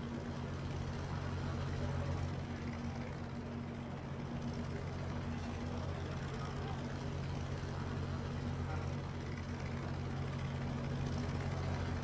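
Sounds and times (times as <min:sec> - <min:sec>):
helicopter engine and rotor hum: 0:00.0 - 0:12.0.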